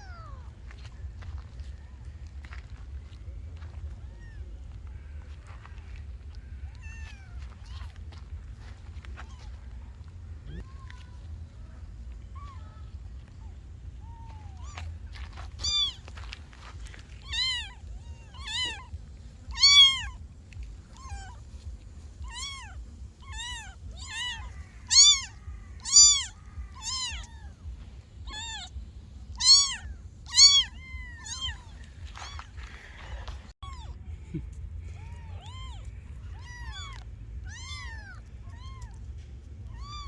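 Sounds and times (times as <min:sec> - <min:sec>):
kittens meowing: 0:00.0 - 0:00.6, 0:03.6 - 0:08.0, 0:09.1 - 0:11.3, 0:12.0 - 0:40.0.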